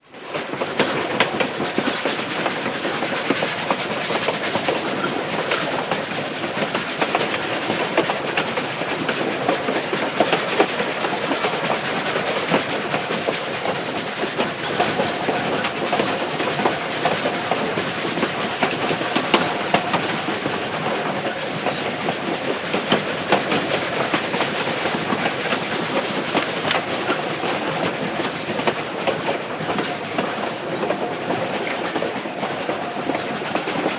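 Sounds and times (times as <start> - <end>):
train cars rumbling and rattling: 0.2 - 33.9
wheels clicking on track: 0.4 - 33.9.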